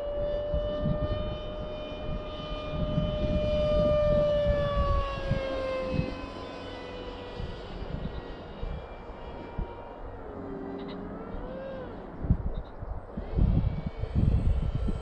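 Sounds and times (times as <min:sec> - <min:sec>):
rc plane motor whining: 0:00.0 - 0:15.0
wind buffeting microphone: 0:00.0 - 0:15.0.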